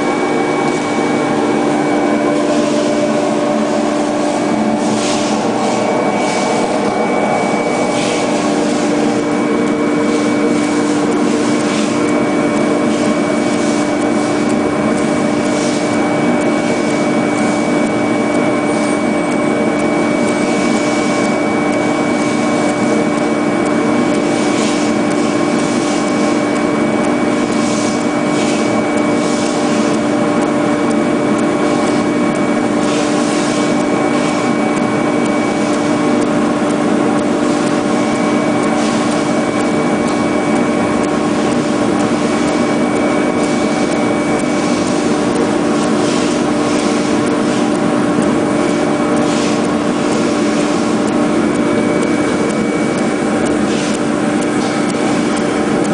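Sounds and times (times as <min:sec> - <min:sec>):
foam cutting machine humming: 0:00.0 - 0:55.9.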